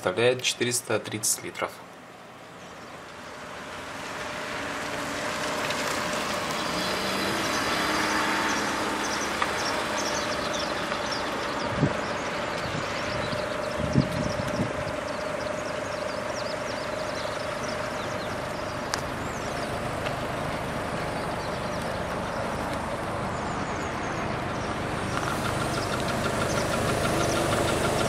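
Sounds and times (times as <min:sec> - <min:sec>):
traffic hiss: 0:00.0 - 0:28.0.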